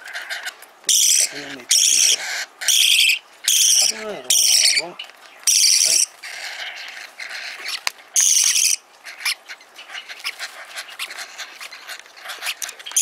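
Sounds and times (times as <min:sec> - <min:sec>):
parrot chicks begging calls: 0:00.0 - 0:13.0.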